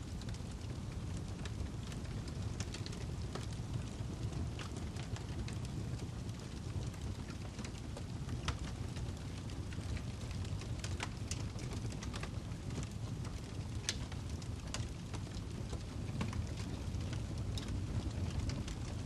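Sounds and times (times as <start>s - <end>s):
low rumble of burning log: 0.0s - 19.0s
wood fire pops and snaps: 0.0s - 19.0s.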